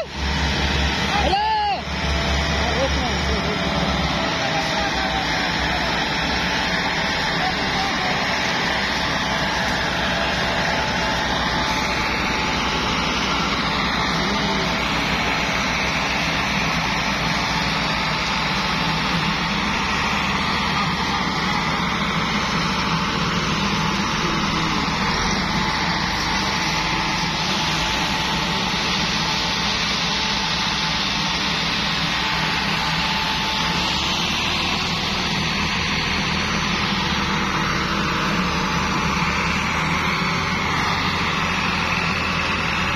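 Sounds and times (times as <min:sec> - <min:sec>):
tractor diesel engines straining: 0:00.0 - 0:42.9.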